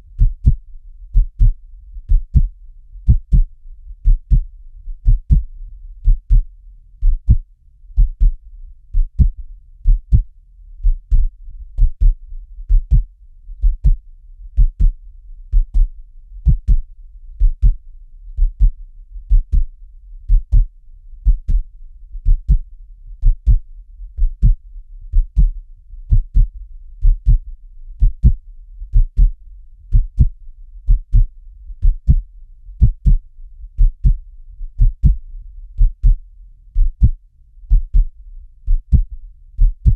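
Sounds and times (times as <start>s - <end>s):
faint low rumble: 0.0s - 39.9s
heartbeat double thump: 0.2s - 7.4s, 8.0s - 14.0s, 14.6s - 17.8s, 18.4s - 19.7s, 20.3s - 23.6s, 24.2s - 30.3s, 30.9s - 32.2s, 32.8s - 33.2s, 33.8s - 35.2s, 35.8s - 39.9s.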